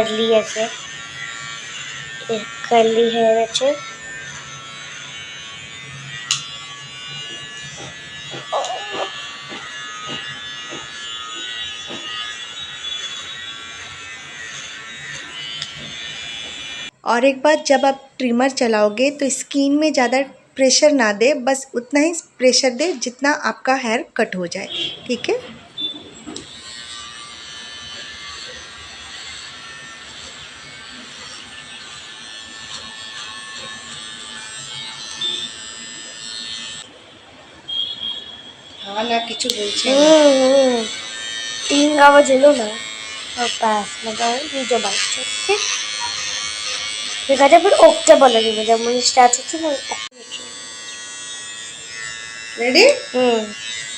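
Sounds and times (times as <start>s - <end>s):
electric hair trimmer buzzing: 0.0s - 17.0s, 24.8s - 37.0s, 37.6s - 53.9s.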